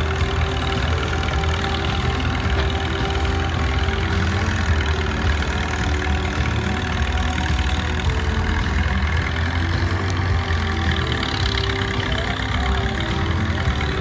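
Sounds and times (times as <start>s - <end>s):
tractor engine rumbling under load: 0.0s - 14.0s.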